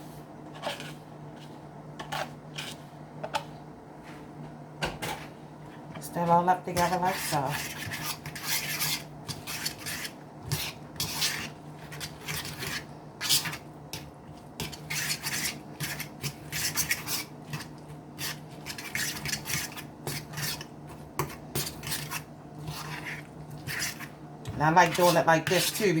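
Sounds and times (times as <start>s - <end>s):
utensil scraping a mixing bowl: 0.0s - 3.5s, 5.1s - 26.0s.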